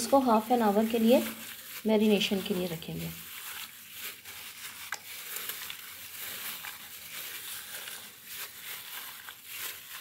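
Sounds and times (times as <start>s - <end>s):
squelching of chicken in marinade: 0.0s - 10.0s.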